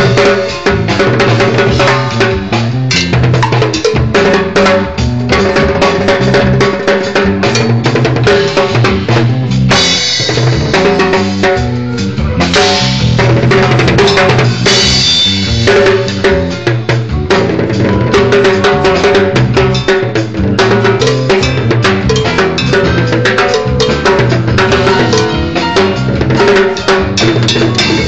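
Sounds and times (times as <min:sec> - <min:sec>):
bass line: 0:00.0 - 0:28.0
drum kit hits: 0:00.0 - 0:28.0
live band playing: 0:00.0 - 0:28.0.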